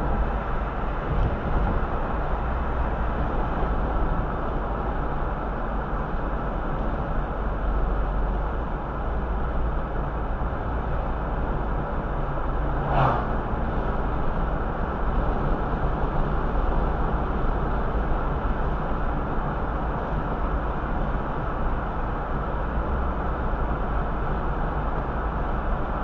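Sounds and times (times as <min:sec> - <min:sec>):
car engine hum: 0:00.0 - 0:26.0
road and tyre noise: 0:00.0 - 0:26.0.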